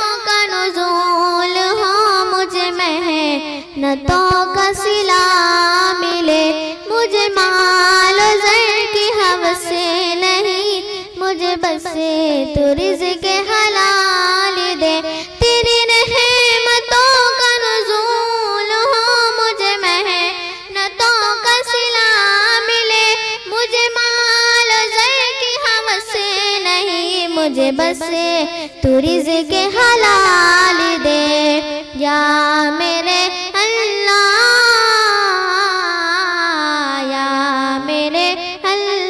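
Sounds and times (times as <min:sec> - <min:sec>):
girl singing into a microphone: 0:00.0 - 0:39.0.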